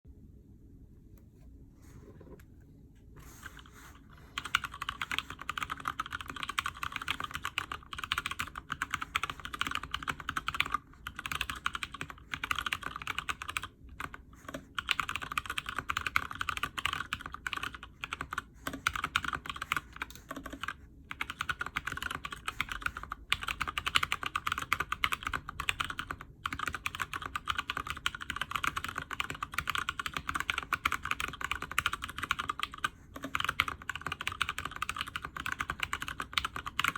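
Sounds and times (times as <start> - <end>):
fast typing on mechanical keyboard: 4.4 - 36.9.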